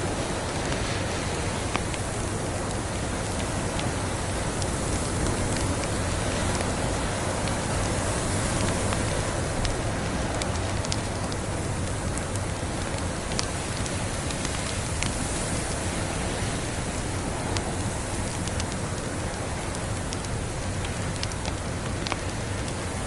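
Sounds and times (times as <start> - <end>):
blizzard wind hiss: 0.0 - 23.0
wood fire crackling: 0.0 - 23.0
small fire pops: 0.4 - 16.2, 16.9 - 23.0.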